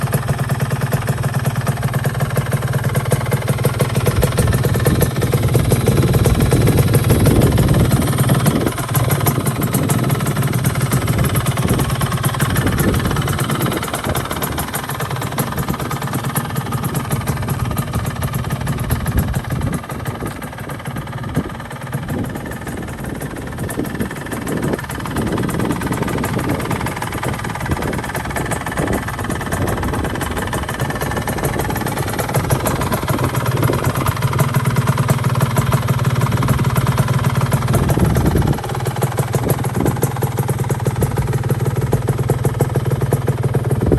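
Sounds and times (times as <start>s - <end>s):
two-stroke motorcycle engine running: 0.0s - 43.9s.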